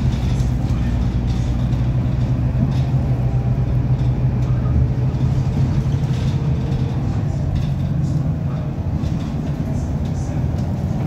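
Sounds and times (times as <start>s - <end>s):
bus engine droning: 0.0s - 11.0s
road noise: 0.0s - 11.0s.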